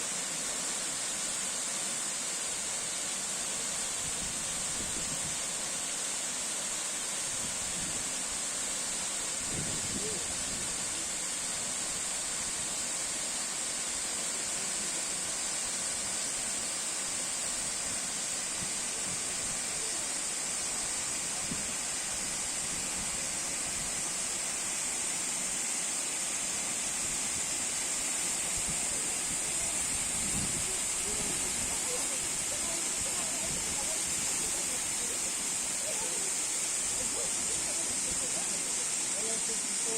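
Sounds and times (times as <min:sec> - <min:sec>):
flowing water rushing: 0:00.0 - 0:39.9
high steady hiss: 0:00.0 - 0:39.9.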